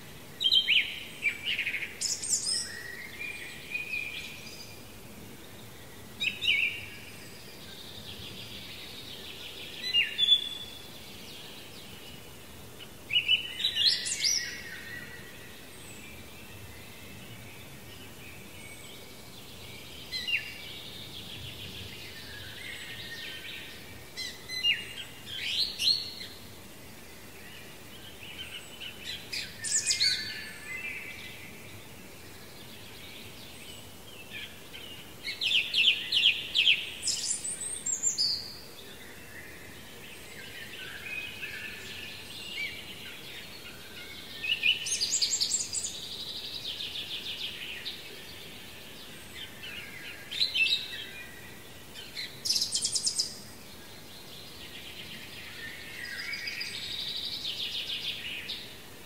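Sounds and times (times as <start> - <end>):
faint outdoor hiss: 0.0 - 59.0
songbirds singing: 0.0 - 59.0.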